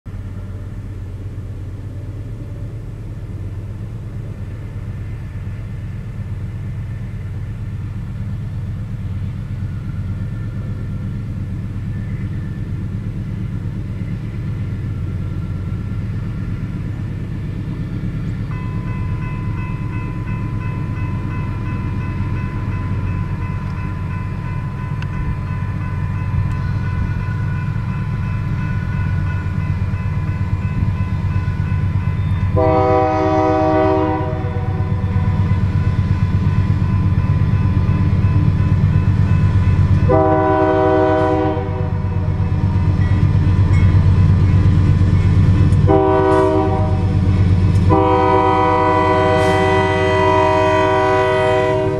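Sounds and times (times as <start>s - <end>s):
diesel locomotives rumbling: 0.1s - 51.9s
crossing warning bell ringing: 8.7s - 51.9s.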